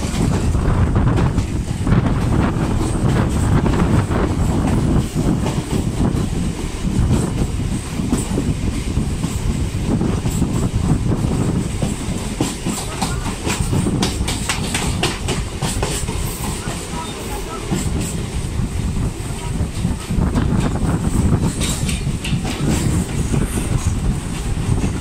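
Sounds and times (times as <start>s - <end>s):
clickety-clack over rail joints: 0.0s - 25.0s
train wheels rumbling on rails: 0.0s - 25.0s.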